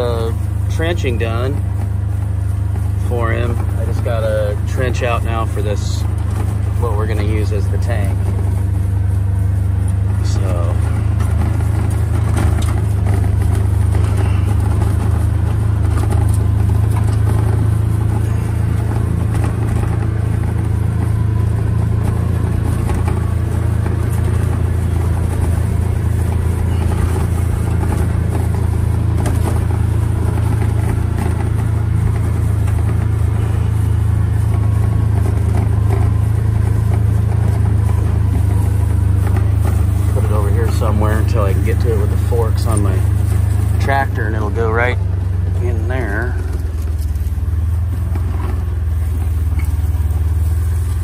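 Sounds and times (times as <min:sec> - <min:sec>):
vehicle engine low drone: 0:00.0 - 0:51.0.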